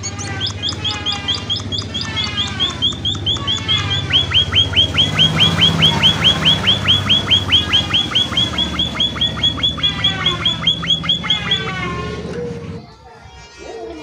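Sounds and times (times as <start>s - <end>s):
finch calling: 0.0s - 12.4s.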